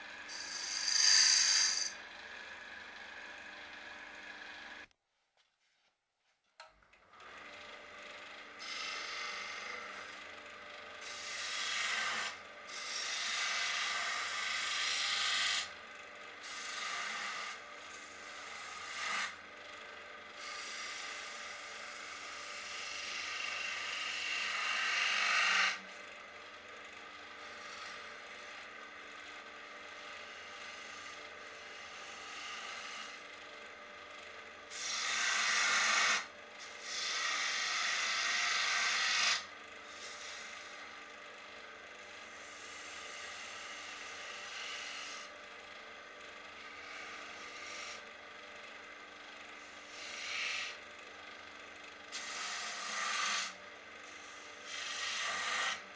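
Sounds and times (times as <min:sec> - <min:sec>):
lathe motor hum: 0:00.0 - 0:04.9, 0:07.0 - 0:55.9
tool scraping spinning wood: 0:00.0 - 0:04.9, 0:07.1 - 0:55.9.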